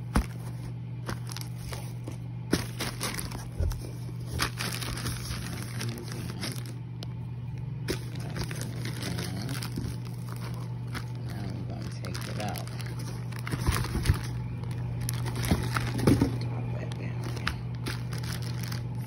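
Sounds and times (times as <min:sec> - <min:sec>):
cardboard and plastic rustling: 0:00.0 - 0:19.0
steady low hum: 0:00.0 - 0:19.0
sharp clicks and crunches: 0:01.1 - 0:19.0.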